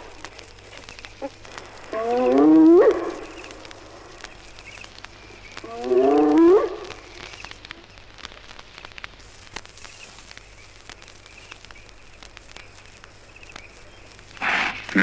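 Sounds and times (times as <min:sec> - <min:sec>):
vinyl surface crackle: 0:00.0 - 0:15.0.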